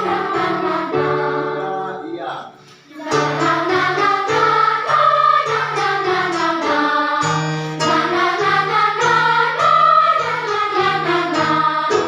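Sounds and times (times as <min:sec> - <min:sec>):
children's choir singing: 0:00.0 - 0:02.3, 0:02.9 - 0:12.0.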